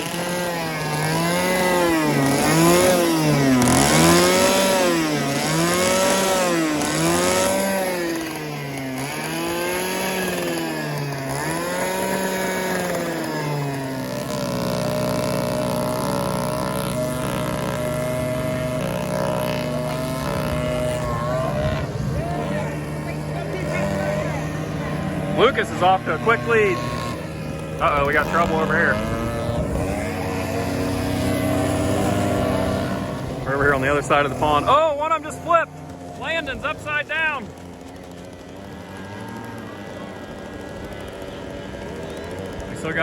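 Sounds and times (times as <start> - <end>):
small gasoline engine revving: 0.0 - 43.0.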